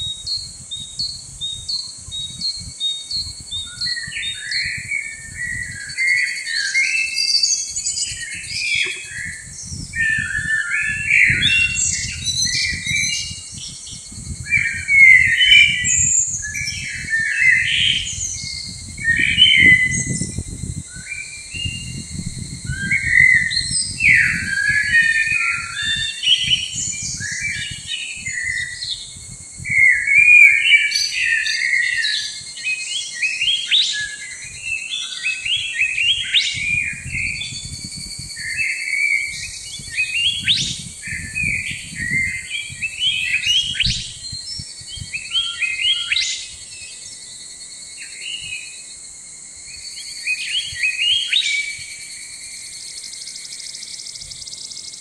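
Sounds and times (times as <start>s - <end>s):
birds chirping and whistling: 0.0s - 48.9s, 49.7s - 55.0s.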